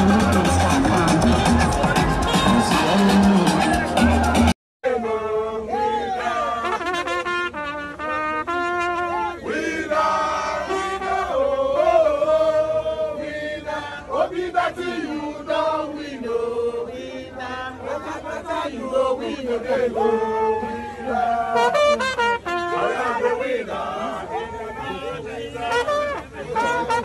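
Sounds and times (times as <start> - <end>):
crowd chanting and singing: 0.0 - 6.9, 9.1 - 26.5.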